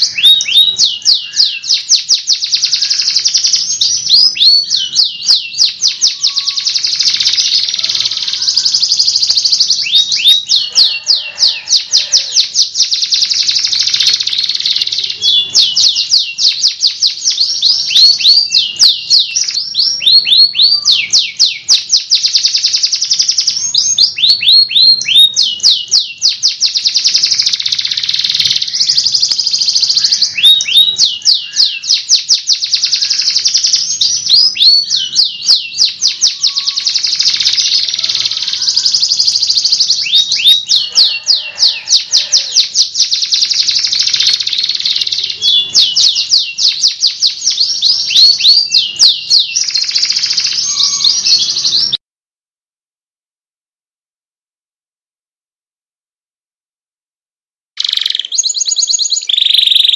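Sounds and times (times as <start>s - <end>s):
canary singing trills: 0.0s - 52.0s, 57.8s - 59.9s.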